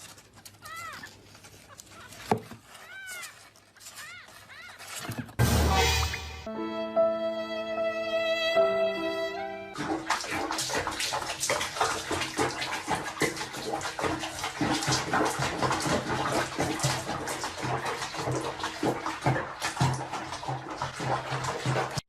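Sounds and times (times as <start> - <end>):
water splashing and sloshing: 0.0 - 6.5, 9.7 - 22.0.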